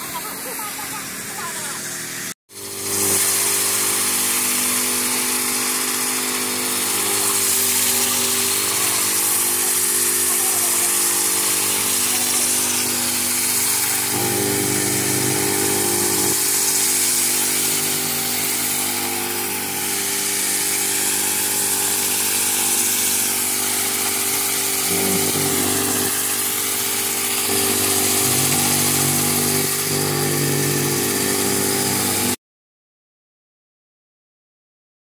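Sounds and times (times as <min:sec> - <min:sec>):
power trowel engine running: 0:00.0 - 0:32.4.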